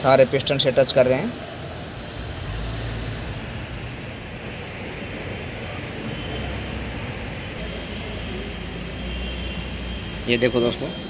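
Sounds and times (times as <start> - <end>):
steady low rumble with hiss: 0.0 - 11.0.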